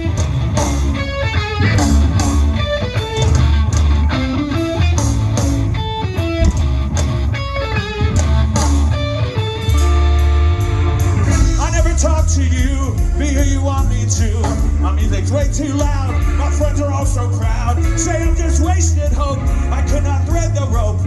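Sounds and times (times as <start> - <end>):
bass guitar: 0.0 - 21.0
drums: 0.0 - 21.0
lead electric guitar: 0.0 - 21.0.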